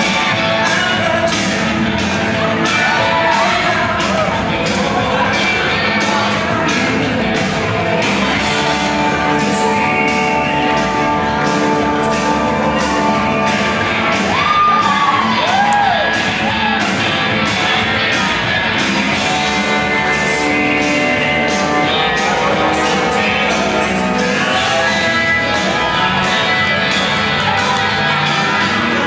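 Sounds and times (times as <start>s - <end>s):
loud dance music: 0.0s - 29.0s
person singing: 0.0s - 29.0s.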